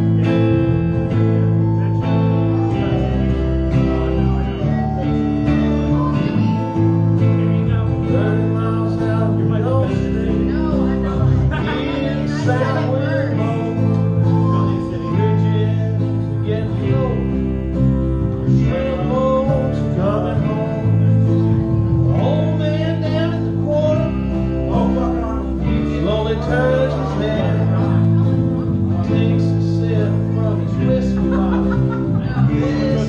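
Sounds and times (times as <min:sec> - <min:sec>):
acoustic guitars strumming: 0:00.0 - 0:33.0
man singing into microphone: 0:02.4 - 0:33.0.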